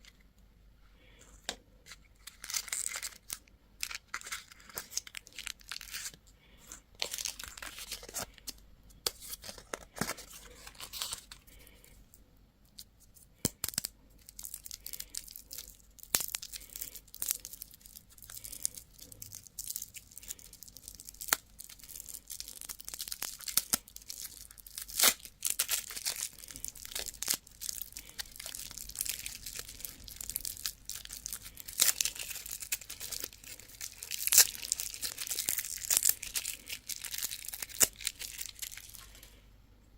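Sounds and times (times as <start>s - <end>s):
candy wrappers crinkling: 1.2s - 39.4s.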